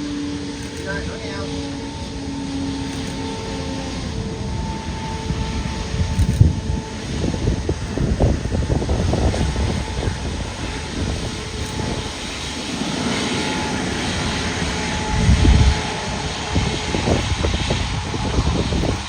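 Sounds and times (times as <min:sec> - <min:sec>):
jet engine rushing: 0:00.0 - 0:19.0.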